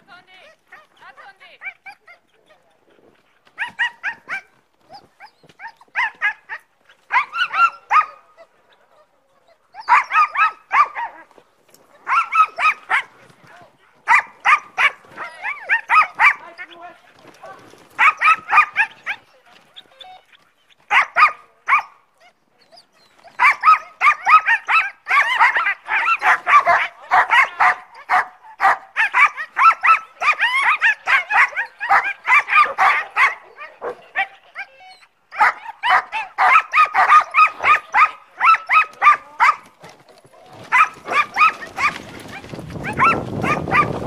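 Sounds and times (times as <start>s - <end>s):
dogs barking: 3.5s - 8.7s, 9.6s - 11.4s, 12.0s - 13.2s, 14.0s - 19.7s, 20.9s - 22.0s, 23.2s - 44.0s.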